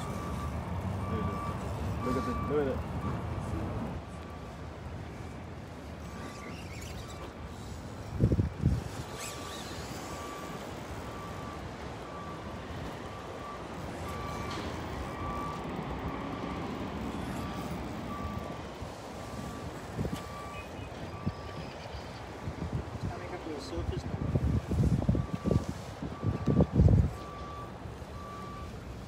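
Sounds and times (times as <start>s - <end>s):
reversing alarm beeping: 0.0s - 5.4s, 8.9s - 29.0s.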